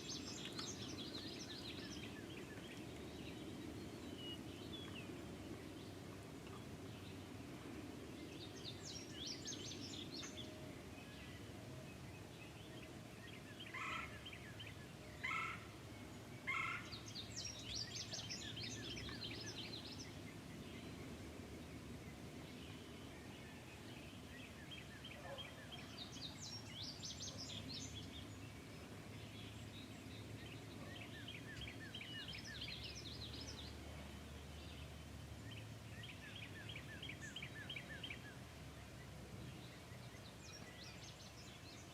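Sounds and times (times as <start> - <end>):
steady low background noise: 0.0 - 41.9.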